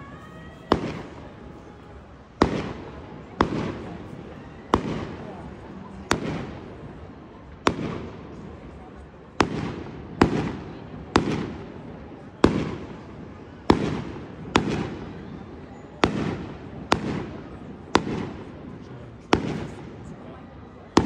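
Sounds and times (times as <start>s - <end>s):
rolling echo: 0.0s - 21.0s.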